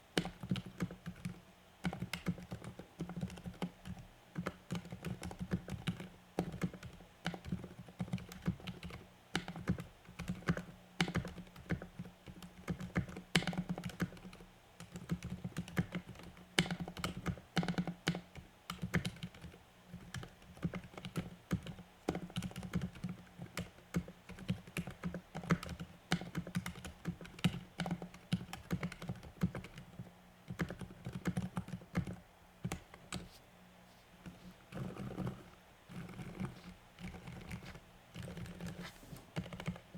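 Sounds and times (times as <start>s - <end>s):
mechanical keyboard typing: 0.2s - 33.3s, 34.7s - 39.9s.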